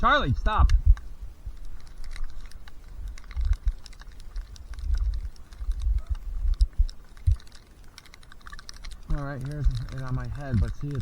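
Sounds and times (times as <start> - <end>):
small plastic clicks and ticks: 0.2 - 11.0.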